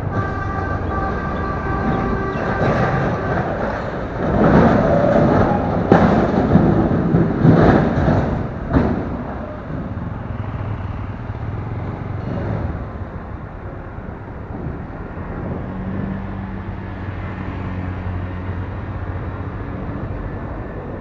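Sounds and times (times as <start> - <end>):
rumbling wind gusts: 0.0 - 21.0
vehicle engine and road noise: 0.0 - 21.0.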